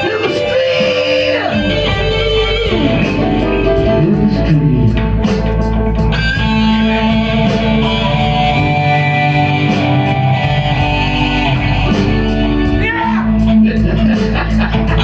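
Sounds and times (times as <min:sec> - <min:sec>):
blues-rock band playing: 0:00.0 - 0:15.0
drums steady beat: 0:00.0 - 0:15.0
electric guitar long notes: 0:00.0 - 0:15.0.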